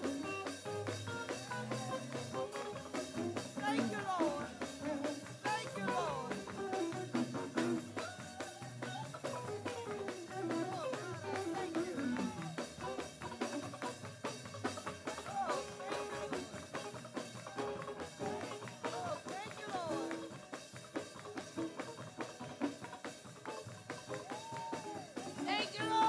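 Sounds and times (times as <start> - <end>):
drum kit beat: 0.0 - 26.0.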